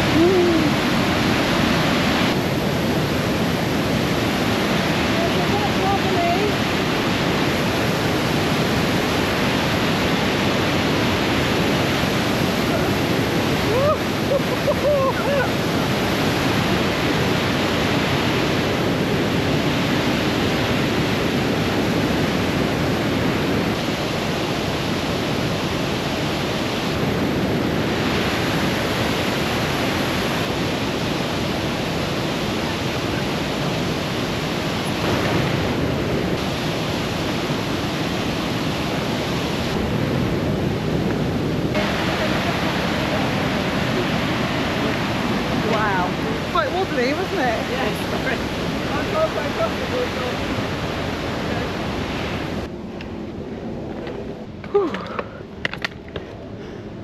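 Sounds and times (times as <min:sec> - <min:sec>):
mountain torrent rushing: 0:00.0 - 0:57.0.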